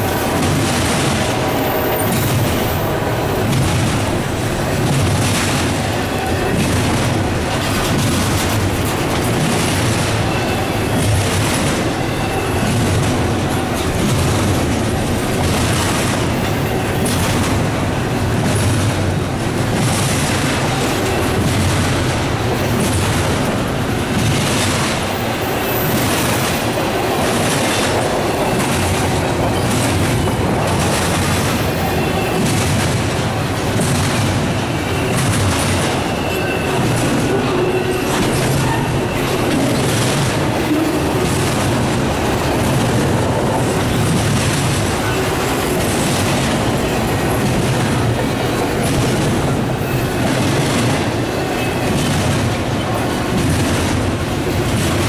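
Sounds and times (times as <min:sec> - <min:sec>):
rhythmic rail clatter: 0:00.0 - 0:55.0
steel wheels rumbling on rail: 0:00.0 - 0:55.0.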